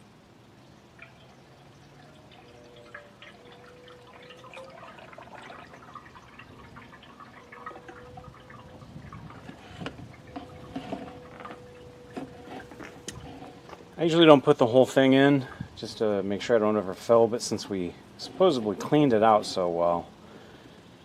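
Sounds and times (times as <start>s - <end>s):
oil pouring and gurgling: 0.3s - 20.9s.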